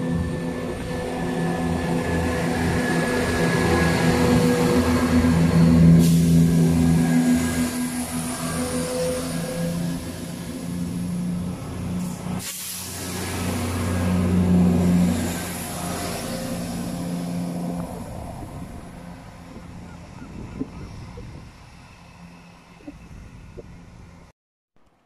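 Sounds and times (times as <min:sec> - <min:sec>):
electric train hum: 0:00.0 - 0:24.3
wheel and rail noise: 0:00.0 - 0:25.0.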